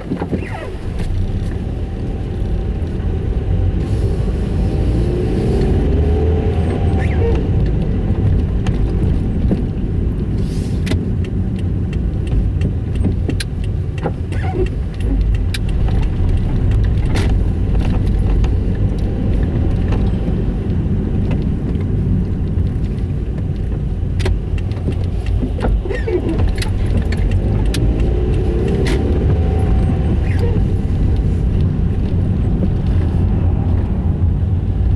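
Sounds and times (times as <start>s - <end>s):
car rumbling and grinding: 0.0s - 34.9s.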